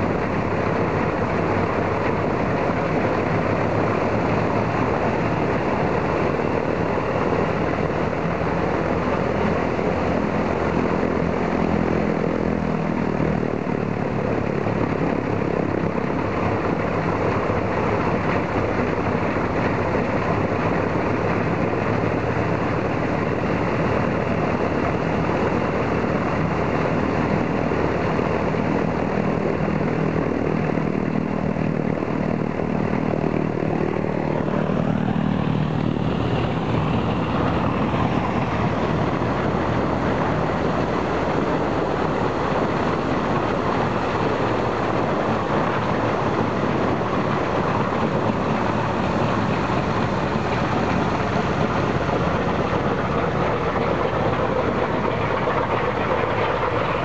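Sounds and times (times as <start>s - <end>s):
propeller engine running: 0.0s - 57.0s.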